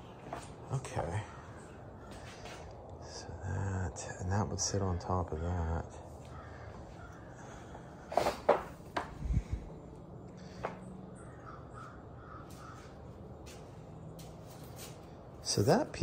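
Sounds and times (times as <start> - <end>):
bird calling: 0.0 - 3.0, 4.6 - 16.0
faint background noise: 0.0 - 16.0.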